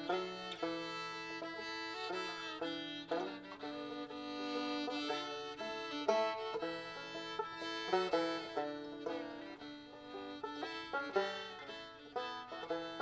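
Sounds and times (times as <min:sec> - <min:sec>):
fiddle playing a waltz: 0:00.0 - 0:13.0
picked banjo: 0:00.0 - 0:13.0.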